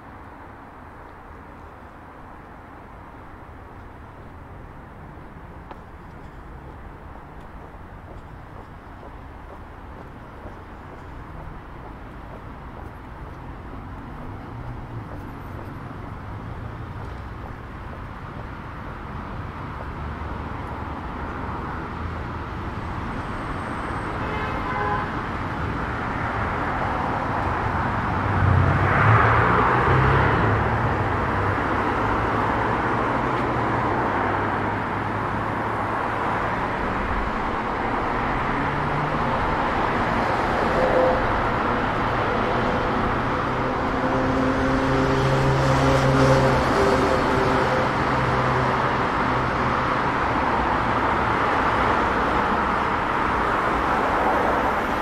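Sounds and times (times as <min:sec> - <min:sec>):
cars driving past: 0:04.0 - 0:55.0.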